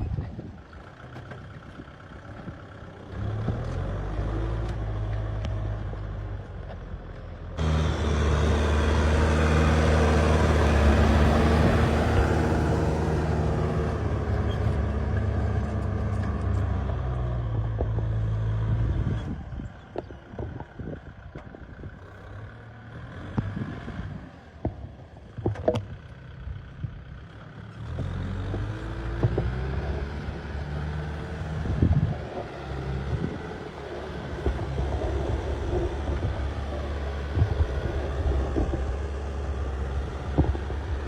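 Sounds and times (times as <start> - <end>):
tractor engine running under load: 0.0 - 41.0.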